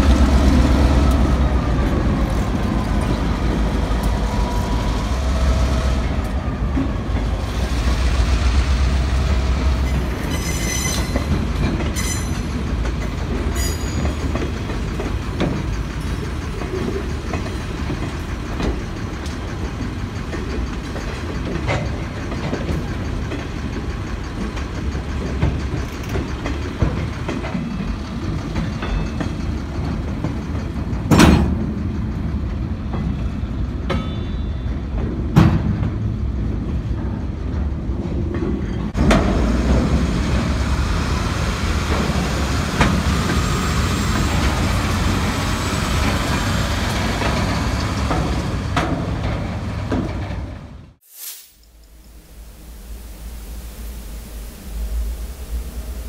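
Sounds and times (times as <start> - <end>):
freight train wheels rumbling: 0.0 - 51.0.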